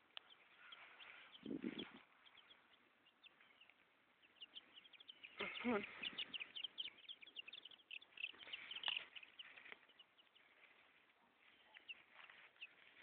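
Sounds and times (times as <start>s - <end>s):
chickens chirping faintly: 0.0s - 13.0s.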